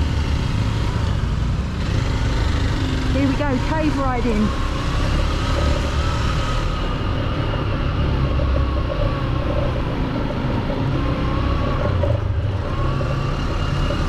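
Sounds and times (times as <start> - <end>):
motorbike engine running at low revs: 0.0 - 14.0.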